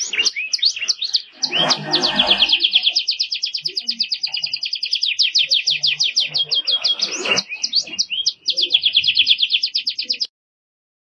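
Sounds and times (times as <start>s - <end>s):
canary singing trills: 0.0s - 10.3s.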